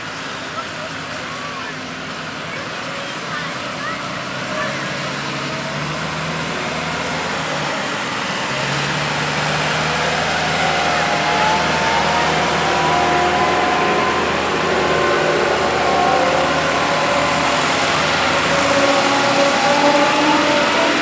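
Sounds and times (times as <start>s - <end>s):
tractor engine running: 1.9s - 21.0s.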